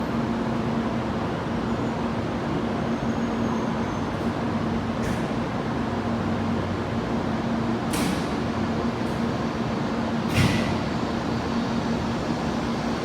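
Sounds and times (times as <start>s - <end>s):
train hum and rumble: 0.0s - 13.0s.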